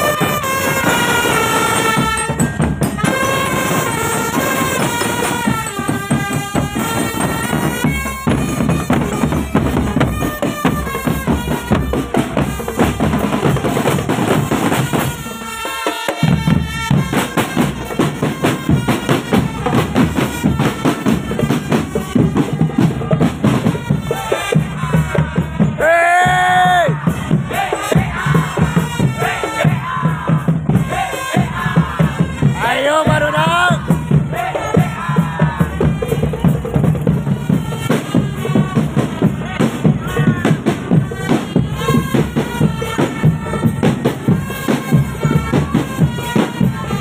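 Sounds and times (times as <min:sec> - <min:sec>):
snare and bass drums beating: 0:00.0 - 0:47.0
wind instruments melody: 0:00.0 - 0:47.0.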